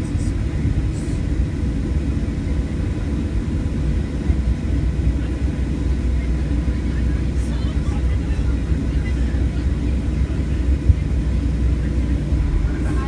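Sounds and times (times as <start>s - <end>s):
faint steady whine: 0.0s - 13.0s
jet engines rumbling: 0.0s - 13.0s.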